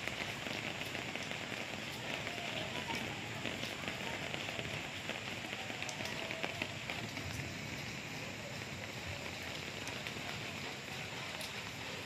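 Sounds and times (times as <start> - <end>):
single raindrops ticking: 0.0 - 12.0
steady rain hiss: 0.0 - 12.0.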